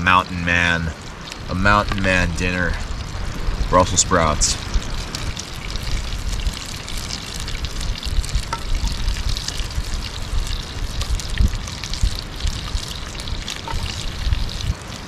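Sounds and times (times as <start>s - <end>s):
crackles: 0.0s - 15.0s
food sizzling in skillet: 0.2s - 15.0s.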